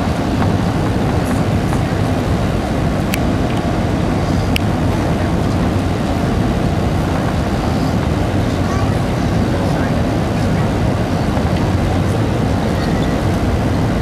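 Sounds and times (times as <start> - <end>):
aircraft cabin engine roar: 0.0 - 14.0.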